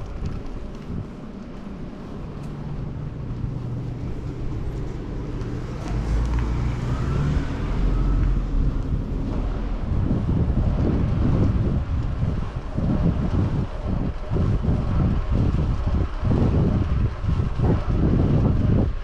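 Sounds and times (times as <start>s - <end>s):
city road traffic: 0.0s - 19.0s
vehicle engine hum: 0.0s - 19.0s
wind rumbling on microphone: 0.0s - 19.0s.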